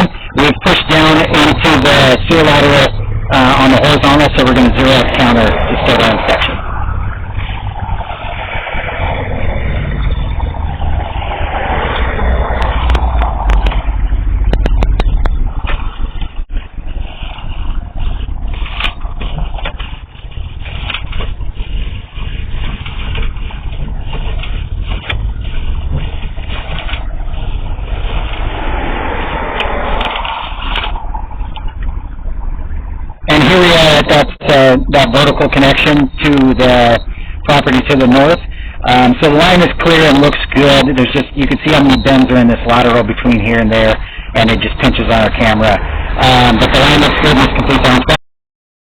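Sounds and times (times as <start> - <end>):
cable scraping: 0.0 - 48.2
low engine-like rumble: 0.0 - 48.2.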